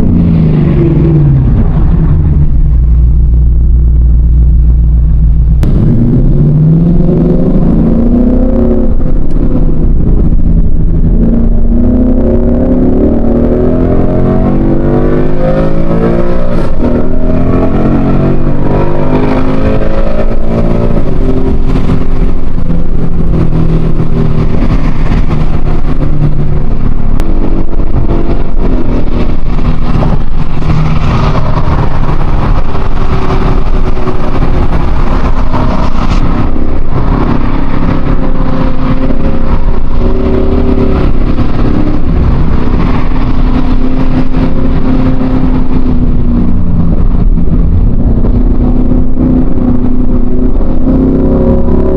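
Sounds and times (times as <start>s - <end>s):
car engine accelerating: 0.0s - 51.9s.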